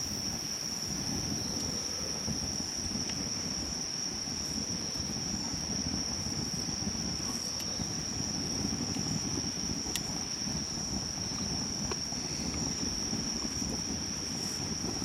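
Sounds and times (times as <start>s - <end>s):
campfire burning: 0.0s - 15.0s
fire crackle: 0.0s - 15.0s
insect trill: 0.0s - 15.0s.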